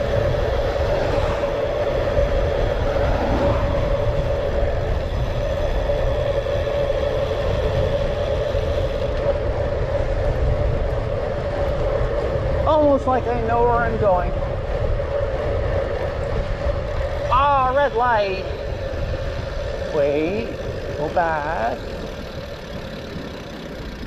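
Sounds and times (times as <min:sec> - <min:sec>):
mid-pitched hum: 0:00.0 - 0:24.0
wind buffeting microphone: 0:00.0 - 0:24.0.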